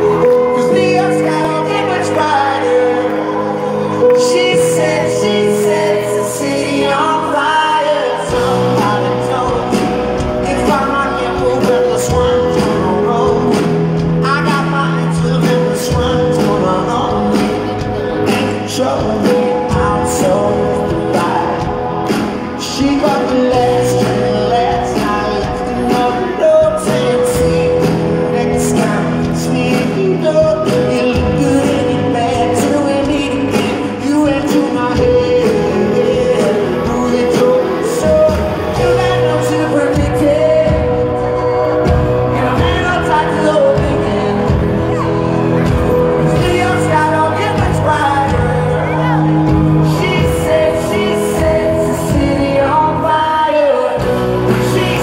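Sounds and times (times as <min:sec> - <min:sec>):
drums and bass: 0:00.0 - 0:55.0
live pop-rock band: 0:00.0 - 0:55.0
male lead vocal: 0:00.0 - 0:55.0.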